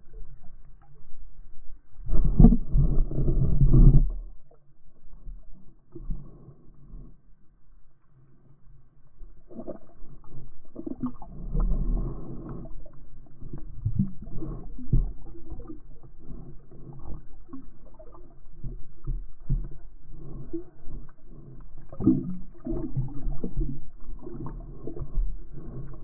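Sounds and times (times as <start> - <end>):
muffled water sloshing: 0.0 - 26.0
soft knocks and gurgles: 2.0 - 7.2, 9.5 - 26.0.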